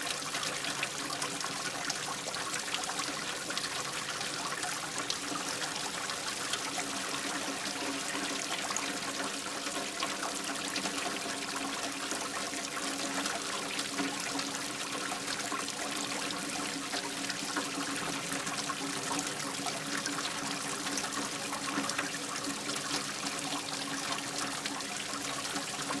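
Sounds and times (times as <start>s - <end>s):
water running into a drain: 0.0s - 26.0s.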